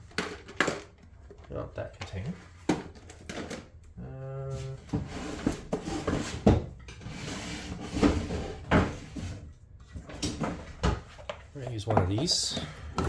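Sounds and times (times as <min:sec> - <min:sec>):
plastic containers clattering: 0:00.0 - 0:03.8, 0:04.9 - 0:13.0.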